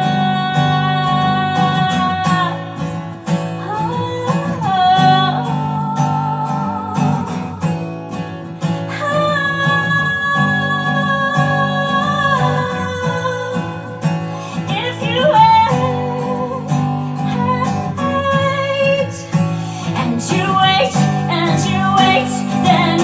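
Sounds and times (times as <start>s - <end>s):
strummed acoustic guitar: 0.0s - 23.0s
woman singing with vibrato: 0.0s - 23.0s.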